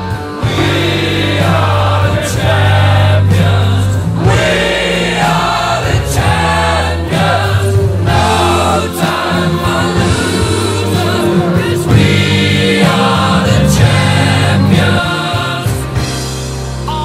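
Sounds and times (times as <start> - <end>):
choir-like singing: 0.0 - 16.2
sustained low bass notes: 0.0 - 17.0.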